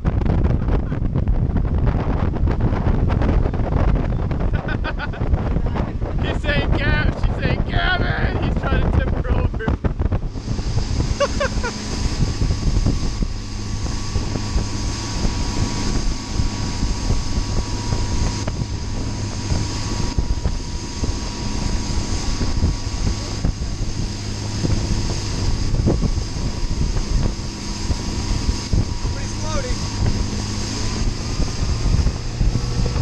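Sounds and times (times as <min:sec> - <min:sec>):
motorboat engine running: 0:00.0 - 0:33.0
wind buffeting microphone: 0:00.0 - 0:33.0
rush of churned wake: 0:03.3 - 0:33.0.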